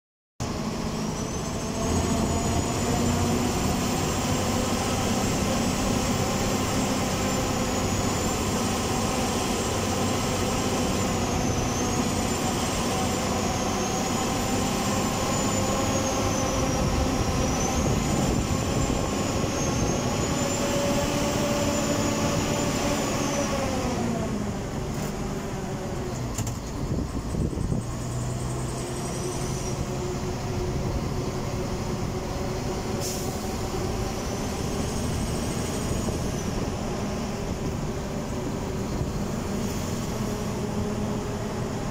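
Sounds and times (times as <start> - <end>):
road noise: 0.4 - 41.9.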